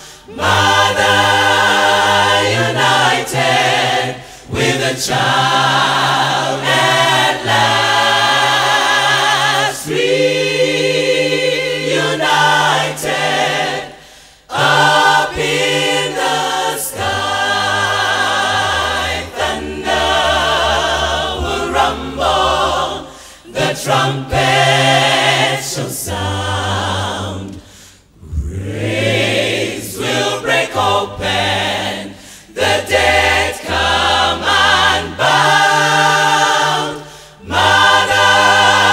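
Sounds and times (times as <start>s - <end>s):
gospel vocal ensemble singing: 0.0s - 38.9s.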